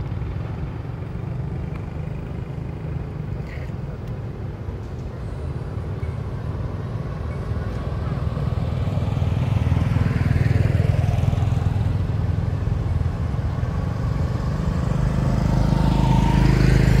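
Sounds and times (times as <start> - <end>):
motorbike approaching: 0.0 - 3.8, 6.7 - 17.0.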